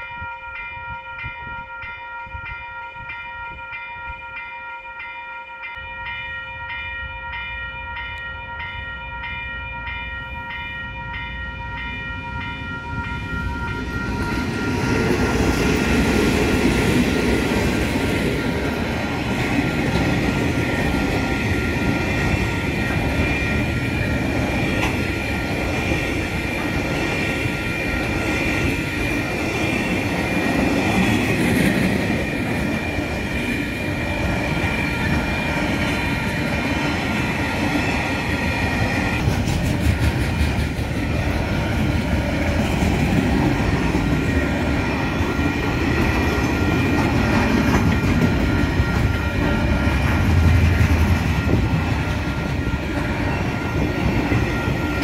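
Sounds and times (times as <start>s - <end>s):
steady high tone: 0.0s - 55.0s
freight train wagons clattering past: 9.1s - 55.0s.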